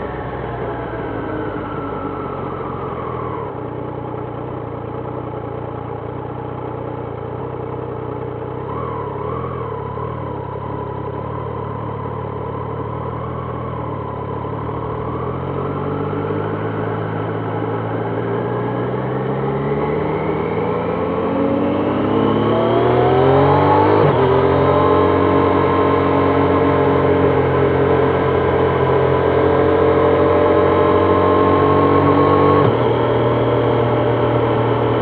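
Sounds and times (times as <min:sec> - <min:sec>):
motorcycle engine running: 0:01.6 - 0:35.0.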